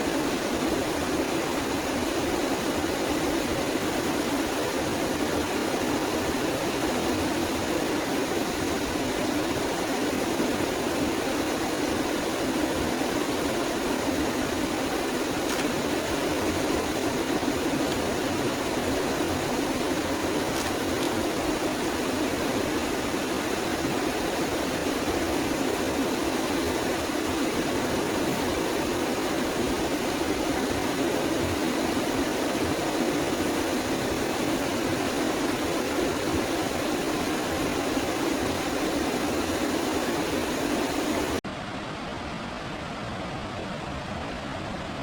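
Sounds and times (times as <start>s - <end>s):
forest ambience rushing noise: 0.0s - 44.5s.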